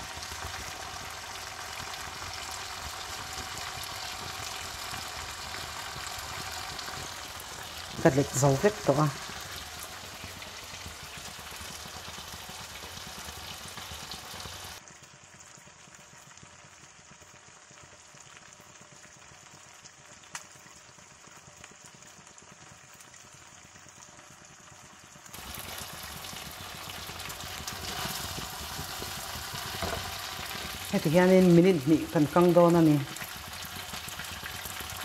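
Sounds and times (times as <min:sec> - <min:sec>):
prawns sizzling in oil: 0:00.0 - 0:35.0.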